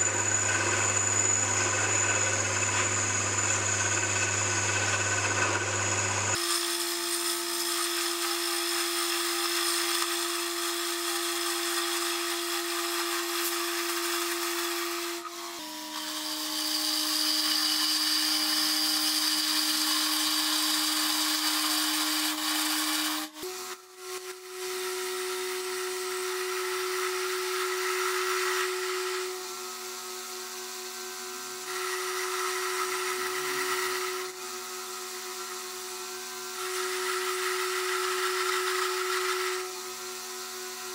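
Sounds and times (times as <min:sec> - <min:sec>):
lathe motor whining: 0:00.0 - 0:40.9.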